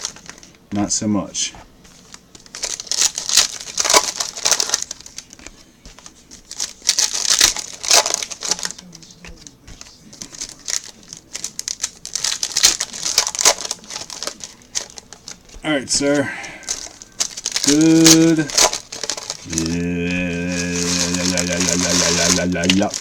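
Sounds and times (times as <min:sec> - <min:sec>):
plastic wrapping crinkling and tearing: 0:00.0 - 0:00.6, 0:01.8 - 0:23.0.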